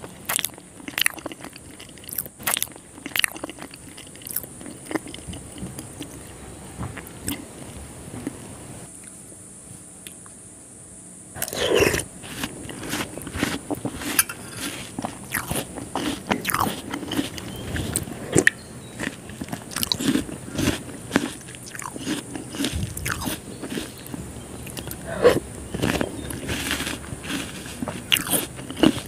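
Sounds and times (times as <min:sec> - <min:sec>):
chewing and mouth smacking: 0:00.0 - 0:06.3, 0:11.4 - 0:29.0.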